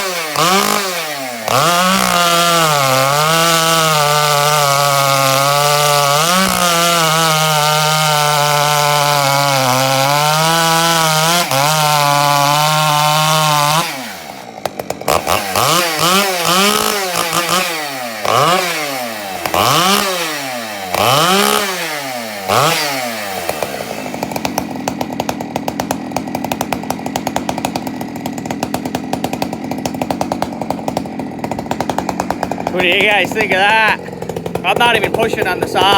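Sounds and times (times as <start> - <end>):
chainsaw revving and idling: 0.0 - 35.9.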